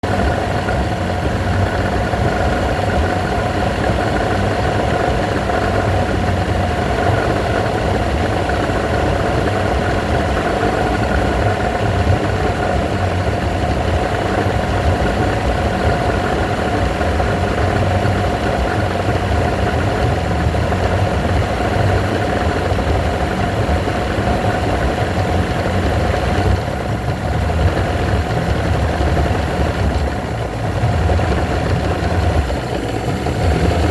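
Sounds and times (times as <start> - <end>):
outboard motor idling roughly: 0.0 - 33.9.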